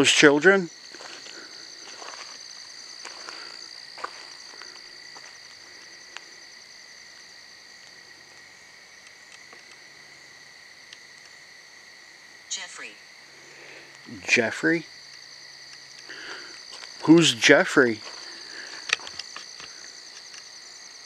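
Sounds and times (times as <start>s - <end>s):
crickets and insects trilling: 0.0s - 21.0s.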